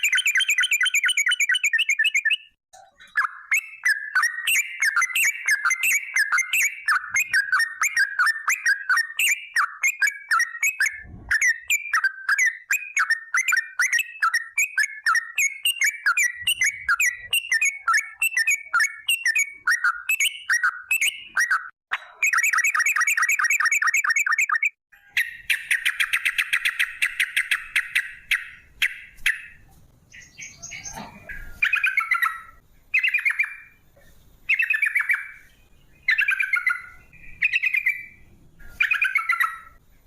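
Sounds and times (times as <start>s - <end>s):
bulbul singing bubbling whistles: 0.0s - 29.6s, 36.0s - 39.8s.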